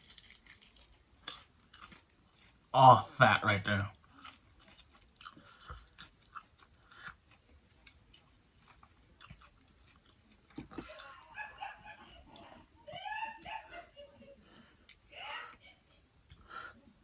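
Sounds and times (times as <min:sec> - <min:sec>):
chewing fried chicken: 0:00.0 - 0:17.0.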